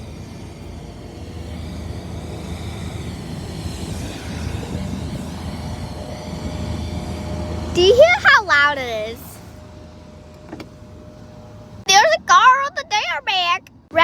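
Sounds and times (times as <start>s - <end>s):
faint steady whine: 0.0s - 14.0s
jet engines rumbling: 0.0s - 14.0s.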